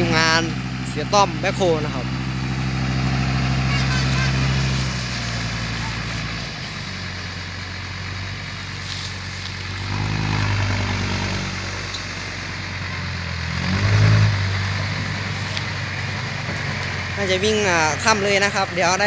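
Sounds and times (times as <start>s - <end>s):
soil tipping: 0.0s - 12.9s, 13.8s - 18.9s
diesel truck engine revving: 0.0s - 19.0s.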